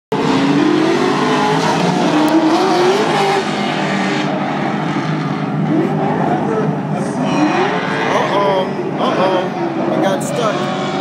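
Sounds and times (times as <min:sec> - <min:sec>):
race car engine revving: 0:00.1 - 0:11.0.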